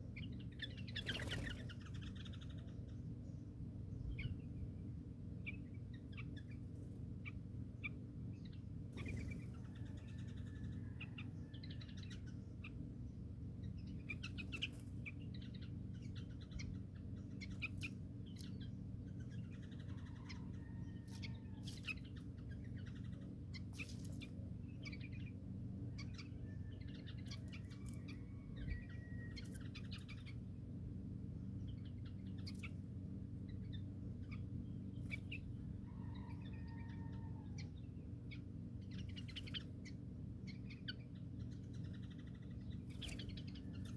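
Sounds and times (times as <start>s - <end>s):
small birds chirping: 0.0s - 43.9s
steady low hum: 0.0s - 43.9s.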